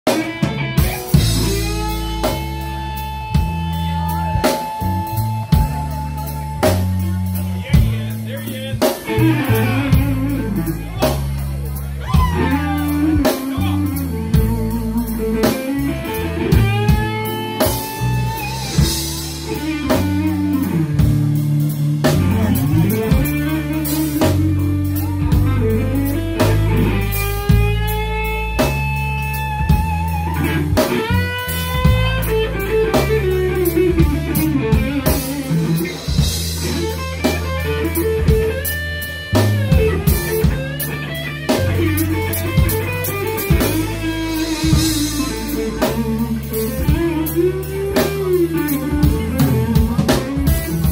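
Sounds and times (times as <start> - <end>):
drum kit: 0.0 - 50.9
electric guitar lead: 0.0 - 50.9
walking bass line: 0.1 - 50.9.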